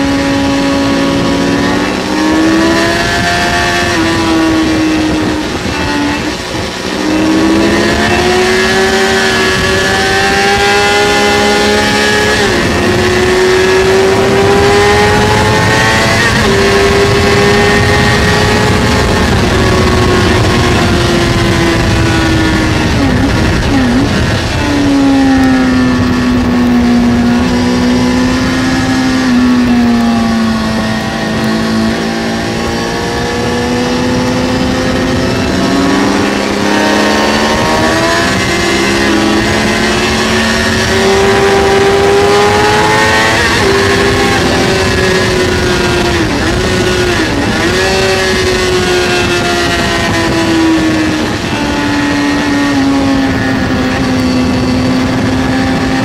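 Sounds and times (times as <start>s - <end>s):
motorcycle engine at high revs: 0.0s - 56.0s
wind noise: 0.0s - 56.0s.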